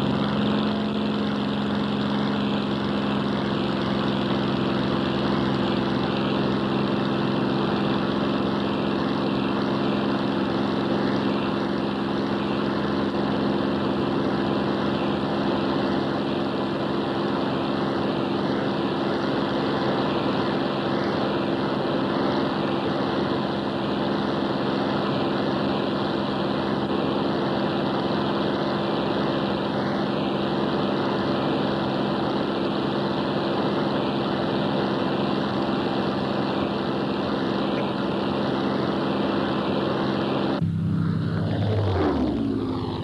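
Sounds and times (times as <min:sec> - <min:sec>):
propeller aircraft engine drone: 0:00.0 - 0:43.0.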